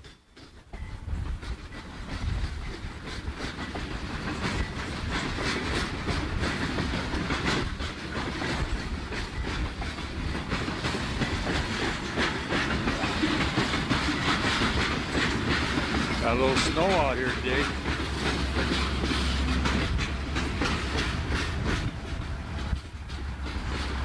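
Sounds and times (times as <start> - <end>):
train wheels rumbling: 0.0 - 24.0
wheels clacking on rail joints: 0.0 - 24.0.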